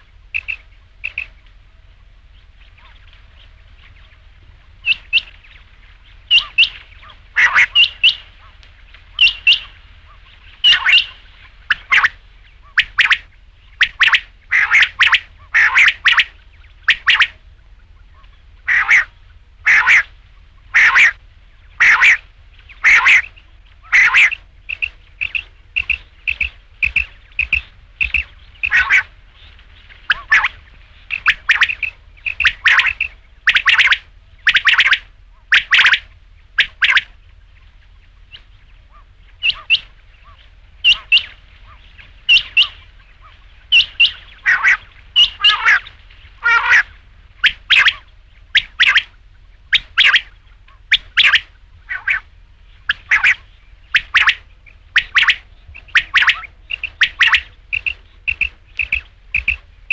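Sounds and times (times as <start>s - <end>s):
faint low hum: 0.0s - 59.9s
quail calling: 0.0s - 59.9s.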